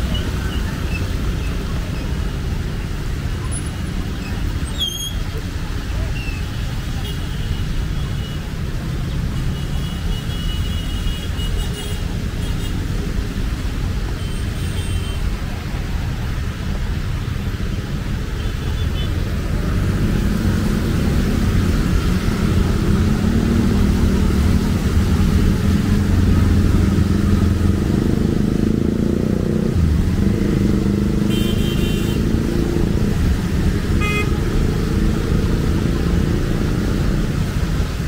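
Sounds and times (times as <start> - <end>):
car and motorcycle engines: 0.0 - 38.0.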